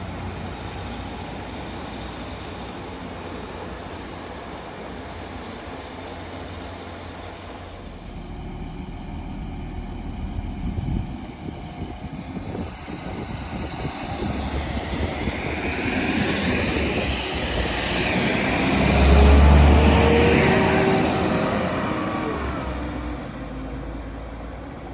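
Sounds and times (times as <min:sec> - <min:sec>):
train passing with rumble and whine: 0:00.0 - 0:24.9.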